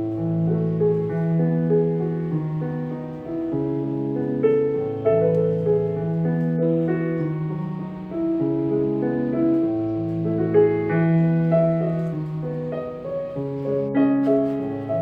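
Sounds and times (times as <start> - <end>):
gentle piano tune: 0.0 - 15.0.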